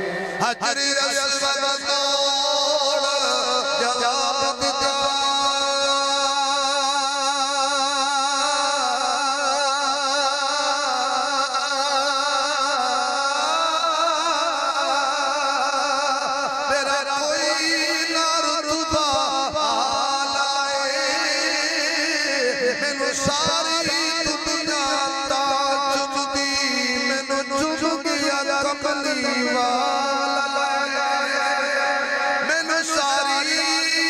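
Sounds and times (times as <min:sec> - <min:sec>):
man chanting into a microphone: 0:00.0 - 0:34.0.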